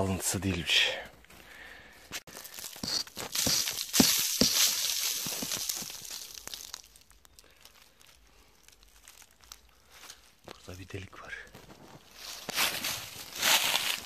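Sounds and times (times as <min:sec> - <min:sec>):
dry leaves and twigs crackling: 0:02.2 - 0:14.0.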